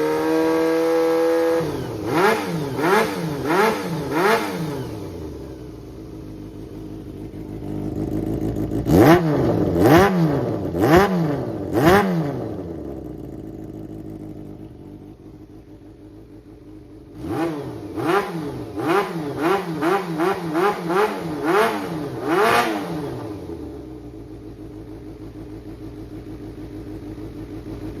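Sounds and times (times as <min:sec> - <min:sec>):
engine throttle blips: 0:00.0 - 0:16.3, 0:17.1 - 0:28.0
motorcycle engine idling: 0:00.0 - 0:28.0.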